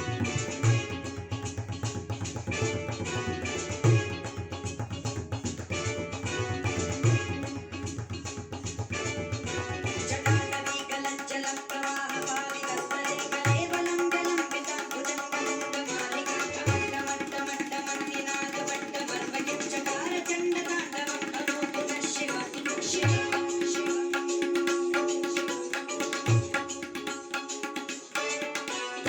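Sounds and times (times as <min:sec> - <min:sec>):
recorded song: 0:00.0 - 0:29.0
tabla played in quick strokes: 0:00.0 - 0:29.0.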